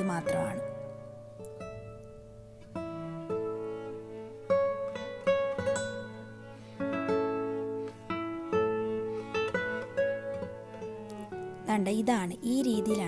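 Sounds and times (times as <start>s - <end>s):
plucked acoustic guitar melody: 0.0s - 13.0s.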